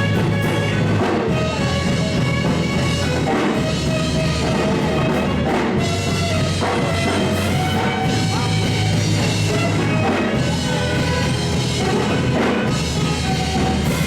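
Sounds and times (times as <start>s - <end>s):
drum kit beat: 0.0s - 14.0s
live worship band music: 0.0s - 14.0s.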